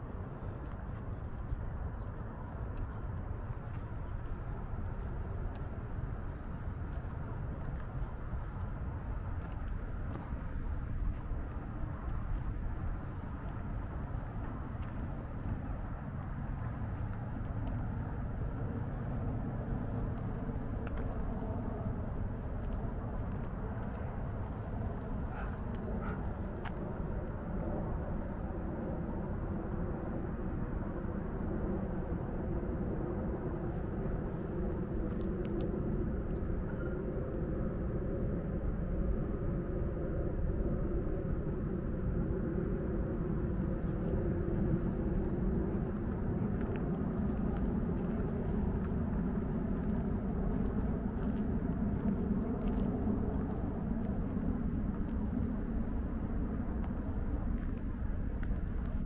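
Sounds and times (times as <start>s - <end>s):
distant city traffic hum: 0.0s - 59.0s
faint engine drone: 0.0s - 59.0s.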